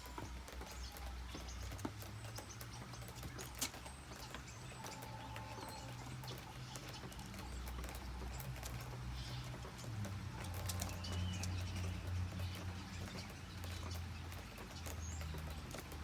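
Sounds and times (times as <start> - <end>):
rain dripping and pattering: 0.0 - 16.0.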